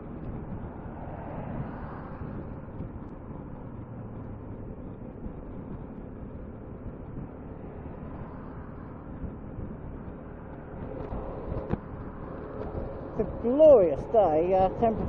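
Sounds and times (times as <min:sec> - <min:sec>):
scooter engine and road noise: 0:00.0 - 0:15.0
wind rush: 0:00.0 - 0:15.0.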